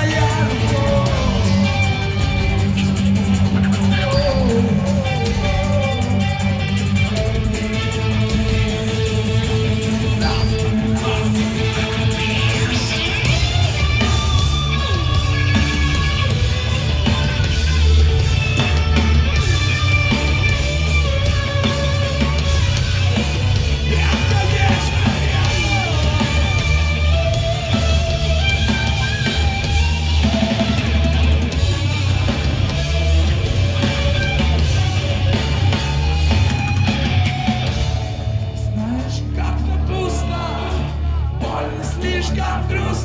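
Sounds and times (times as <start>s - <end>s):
bass guitar: 0.0s - 43.0s
distorted electric guitars: 0.0s - 43.0s
drum kit: 0.0s - 43.0s.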